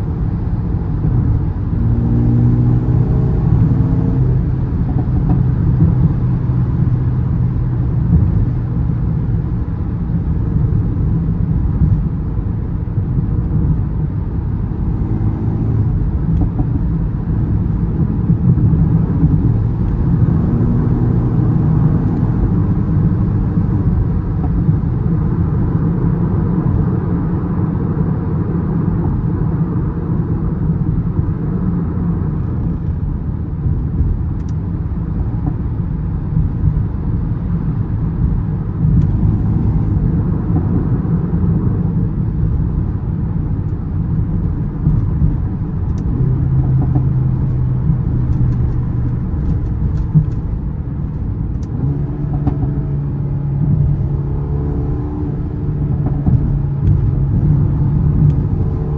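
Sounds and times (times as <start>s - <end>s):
car engine drone: 0.0s - 58.9s
tyre and road rumble: 0.0s - 58.9s.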